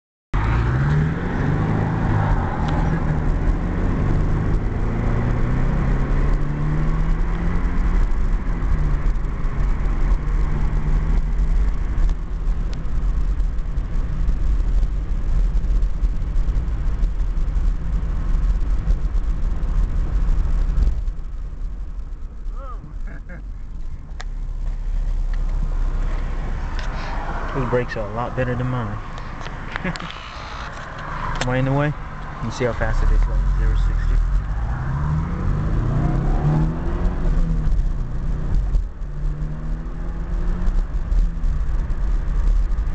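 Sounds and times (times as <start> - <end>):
low road rumble: 0.3 - 42.9
car engine accelerating: 0.4 - 42.9.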